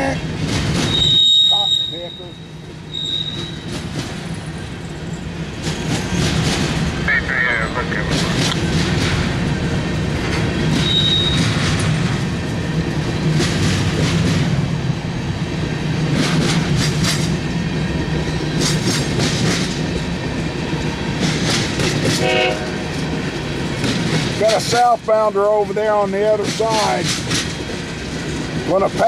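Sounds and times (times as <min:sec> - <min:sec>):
wheels clickety-clack: 0:00.0 - 0:02.1, 0:02.7 - 0:07.1, 0:08.0 - 0:14.7, 0:15.9 - 0:29.0
freight train rumbling past: 0:00.0 - 0:29.0.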